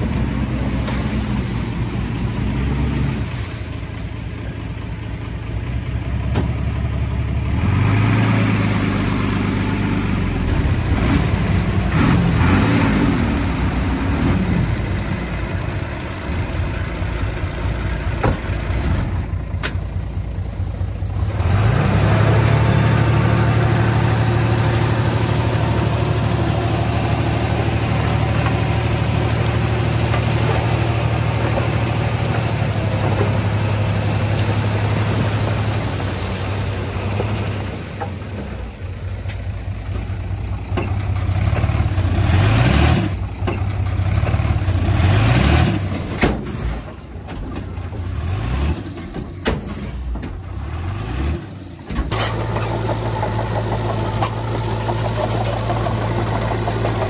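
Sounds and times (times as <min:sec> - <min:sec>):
earthmoving machine diesel engine: 0:00.0 - 0:57.0.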